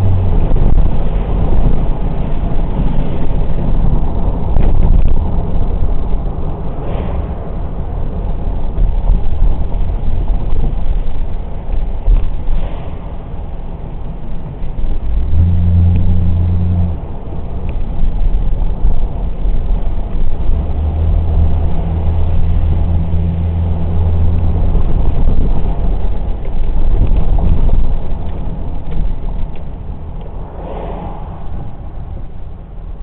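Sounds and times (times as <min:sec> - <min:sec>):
car engine drone: 0:00.0 - 0:33.0
road noise: 0:00.0 - 0:33.0.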